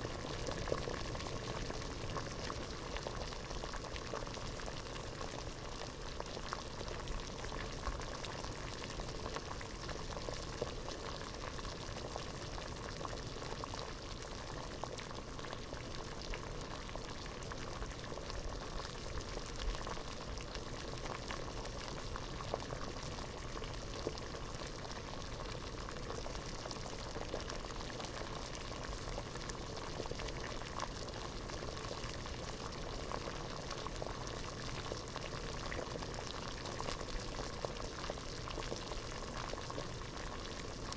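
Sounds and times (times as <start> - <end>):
water boiling in a pot: 0.0 - 40.9.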